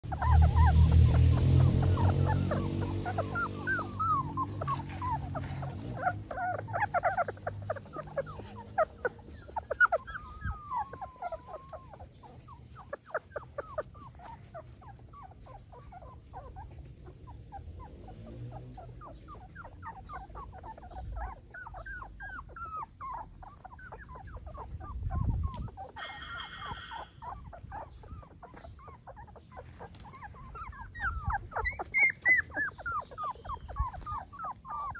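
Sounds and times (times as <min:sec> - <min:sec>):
puppies whimpering and squeaking: 0:00.0 - 0:34.9.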